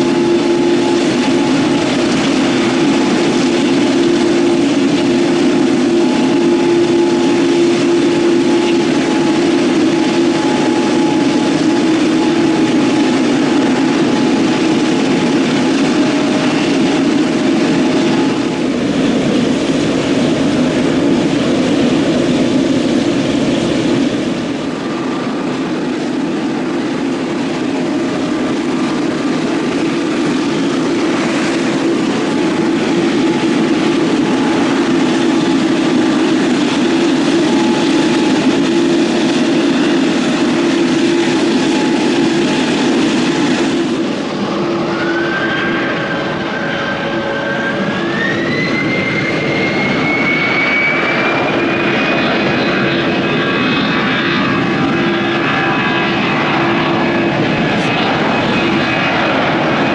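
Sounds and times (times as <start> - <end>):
jet engine noise: 0.0 - 59.9.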